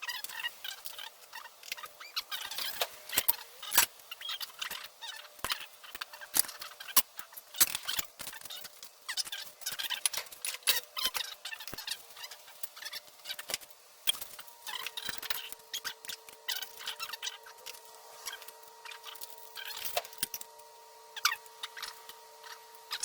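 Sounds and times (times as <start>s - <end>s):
small clicks taps and squeaks: 0.0s - 20.5s, 21.2s - 23.0s.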